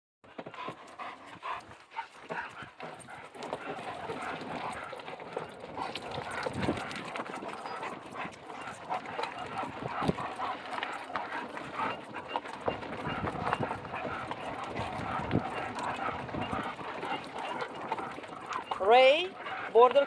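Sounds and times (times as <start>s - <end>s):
dog paws clicking on ground: 0.3s - 20.0s.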